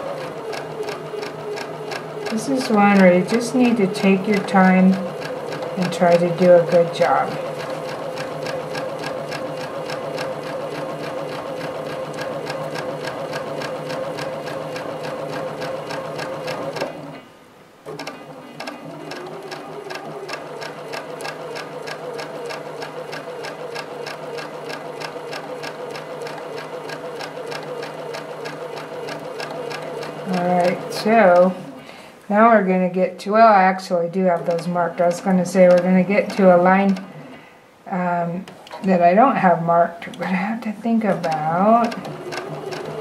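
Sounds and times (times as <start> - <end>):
sewing machine stitching: 0.0 - 17.2, 17.8 - 31.8, 34.0 - 37.4, 41.0 - 43.0.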